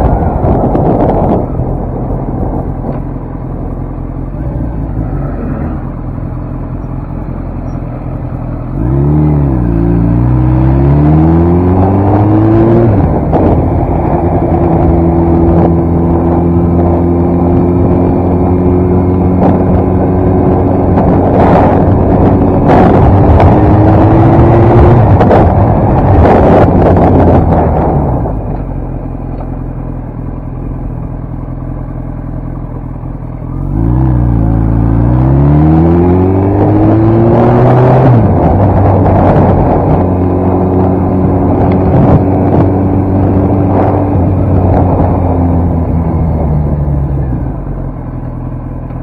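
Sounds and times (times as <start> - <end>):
wind rush on helmet microphone: 0.0 - 31.7, 32.5 - 49.0
motorcycle engine: 0.0 - 49.0.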